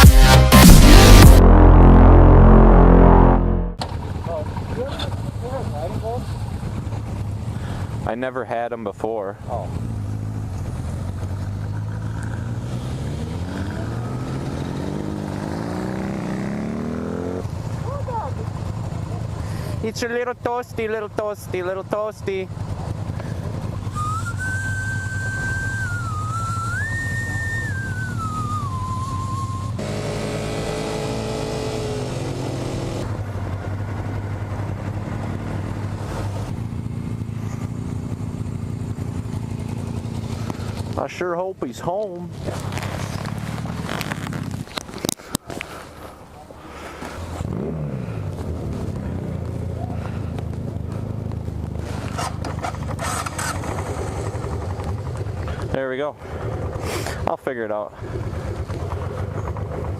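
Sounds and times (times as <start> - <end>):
motorcycle engine accelerating: 0.0 - 8.1, 9.4 - 41.0, 42.2 - 45.6, 47.0 - 59.9.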